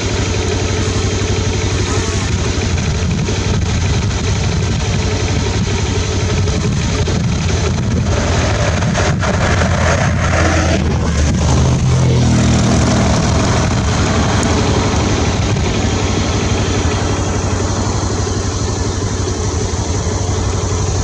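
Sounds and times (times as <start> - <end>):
vehicle engine revving and idling: 0.0 - 21.0.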